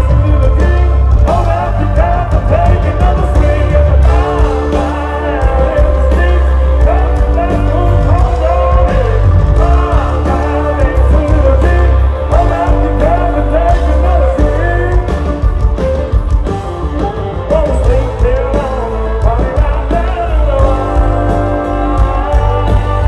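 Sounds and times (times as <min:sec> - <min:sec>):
man singing: 0:00.0 - 0:16.0, 0:17.0 - 0:23.0
country band playing: 0:00.0 - 0:23.0.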